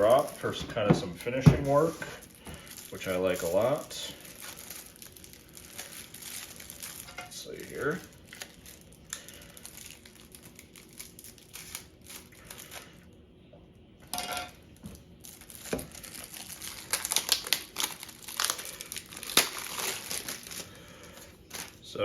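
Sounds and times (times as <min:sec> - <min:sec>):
packaging rustling: 0:00.0 - 0:13.0, 0:14.8 - 0:21.8.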